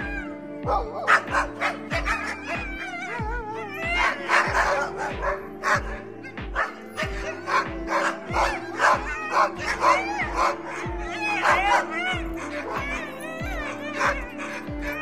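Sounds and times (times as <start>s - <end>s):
background music with beat: 0.0s - 15.0s
dog whining: 0.0s - 15.0s
dog yapping: 0.0s - 15.0s.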